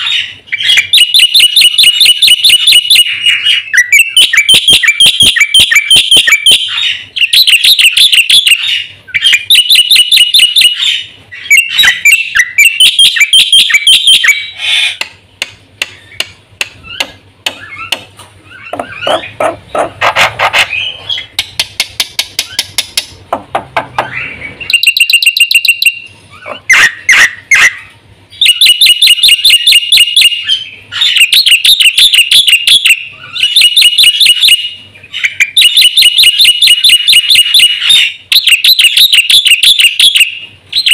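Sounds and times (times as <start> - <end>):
starling chattering song: 0.0 - 15.2, 15.9 - 23.2, 24.0 - 40.9.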